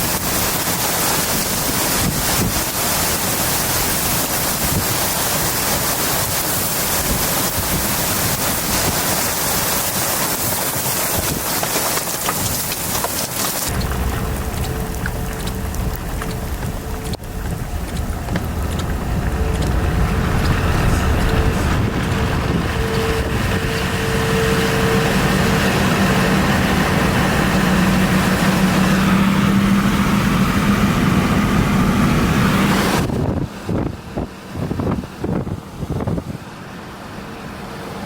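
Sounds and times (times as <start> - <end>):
wind rushing over microphone: 0.0 - 13.0, 13.6 - 36.6
vehicle engine hum: 0.0 - 38.0.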